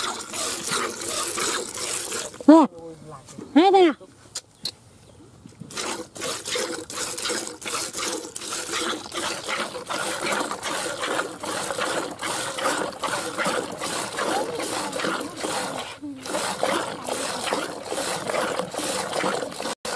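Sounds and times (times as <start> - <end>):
milk squirting into plastic bucket: 0.0 - 2.5, 5.7 - 19.9.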